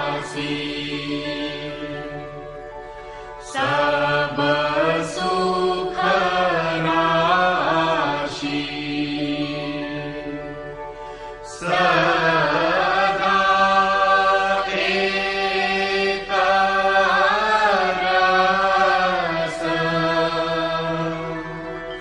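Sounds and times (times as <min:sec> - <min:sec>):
devotional chanting: 0:00.0 - 0:22.0.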